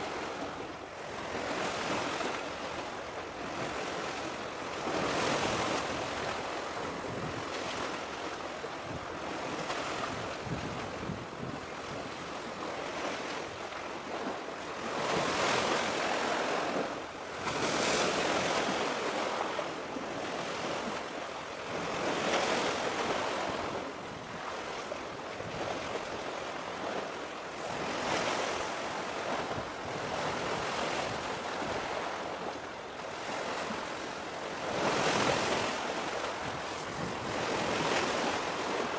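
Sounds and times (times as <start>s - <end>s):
surf washing in: 0.0s - 38.9s
wind: 0.0s - 38.9s.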